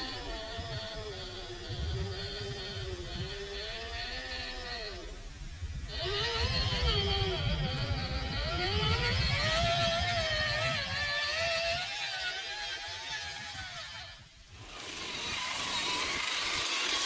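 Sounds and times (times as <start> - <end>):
rc car motor and gear whine: 0.0 - 17.0.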